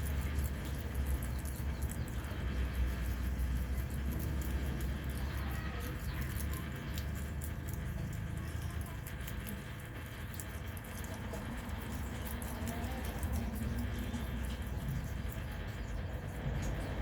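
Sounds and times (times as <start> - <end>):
pets chewing food: 0.0 - 17.0.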